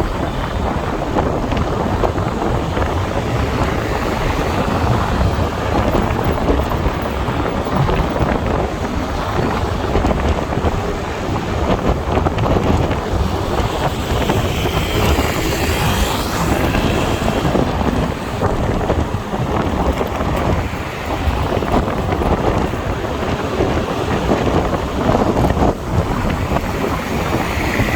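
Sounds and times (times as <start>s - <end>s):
motorbike engine and road rumble: 0.0s - 27.9s
wind buffeting microphone: 0.0s - 27.9s.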